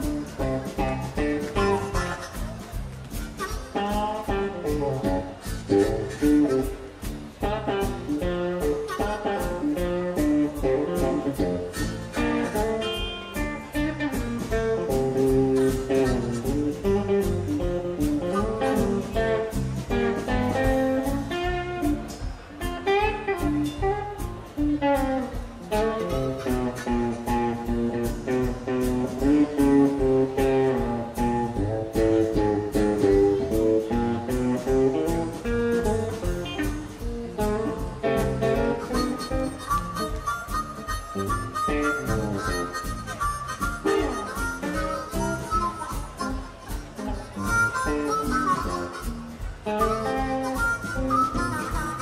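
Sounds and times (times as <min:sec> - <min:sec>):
bass: 0:00.0 - 0:52.0
drums beating: 0:00.0 - 0:52.0
electric guitar lead: 0:00.0 - 0:52.0.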